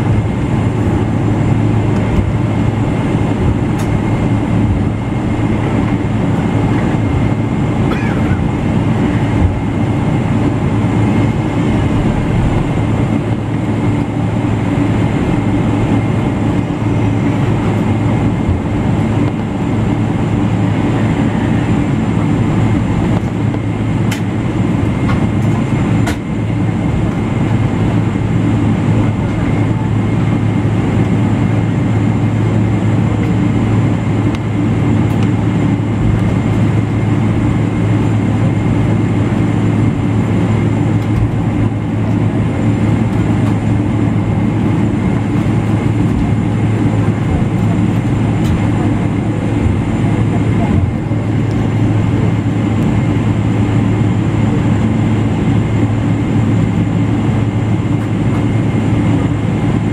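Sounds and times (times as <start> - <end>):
aircraft cabin engine drone: 0.0 - 59.9
high engine whine: 0.0 - 59.9
rumble of rolling aircraft: 0.0 - 59.9.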